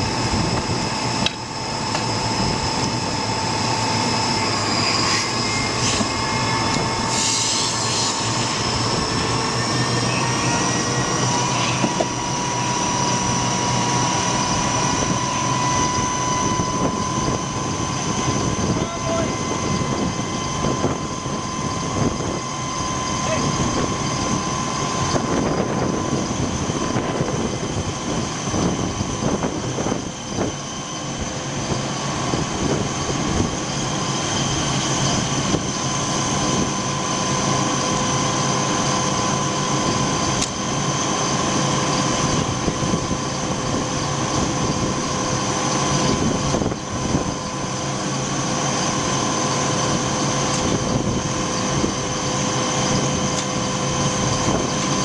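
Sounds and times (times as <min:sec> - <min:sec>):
fire truck engine running: 0:00.0 - 0:55.0
steady whine: 0:00.0 - 0:55.0.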